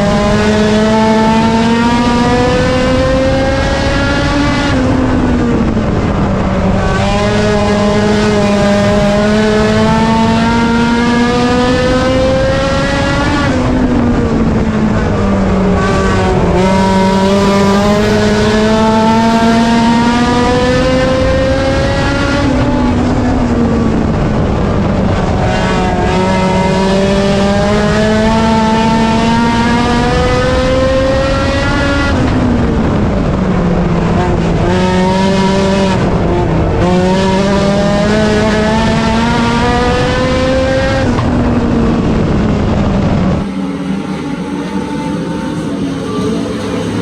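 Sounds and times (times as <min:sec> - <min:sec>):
race car engine at full throttle: 0:00.0 - 0:47.0.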